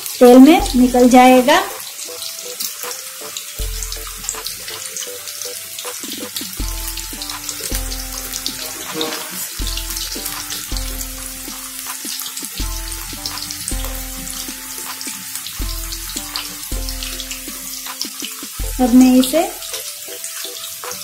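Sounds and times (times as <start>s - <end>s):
food deep-frying in hot oil: 0.0s - 21.0s
background music with low bass: 0.4s - 21.0s.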